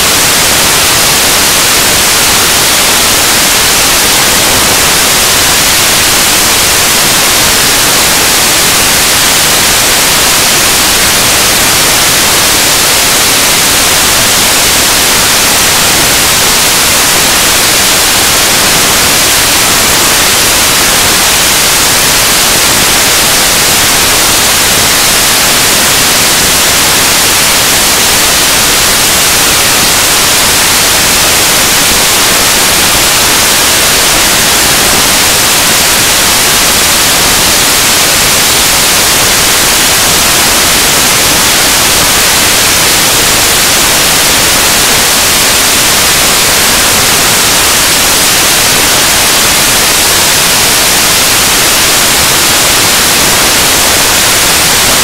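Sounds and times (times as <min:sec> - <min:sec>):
static hiss: 0:00.0 - 0:55.0.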